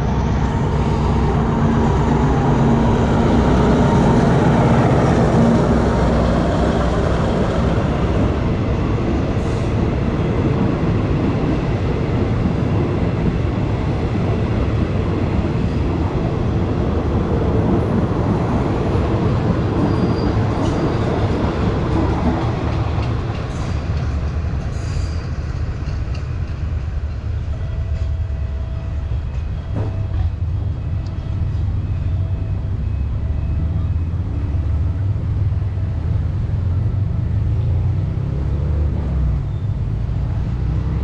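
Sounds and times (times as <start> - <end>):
train coaches rumbling past: 0.0 - 41.0.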